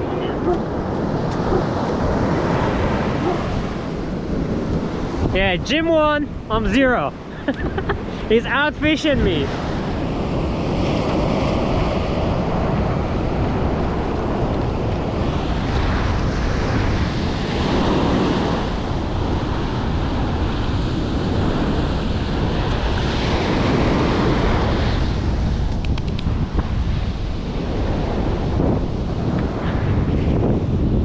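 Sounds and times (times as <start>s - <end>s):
ocean surf breaking: 0.0s - 25.7s
wind rumbling on microphone: 0.0s - 31.0s.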